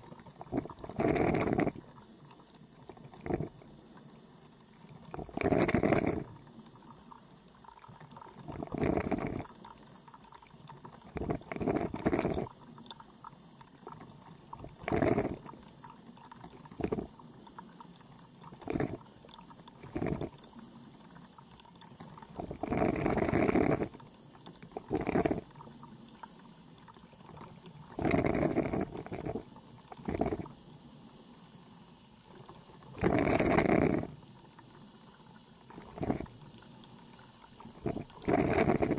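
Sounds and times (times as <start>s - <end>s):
coffee machine gurgling and sputtering: 0.0s - 38.9s.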